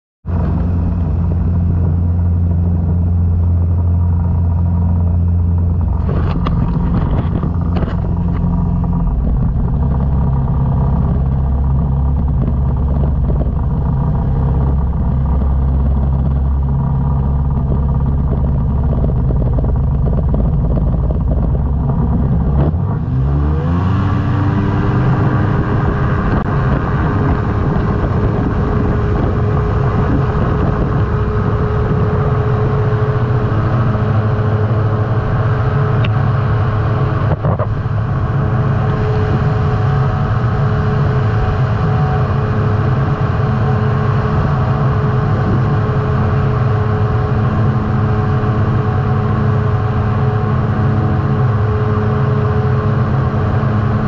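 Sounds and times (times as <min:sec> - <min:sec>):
engine and pusher propeller running: 0:00.3 - 0:54.0.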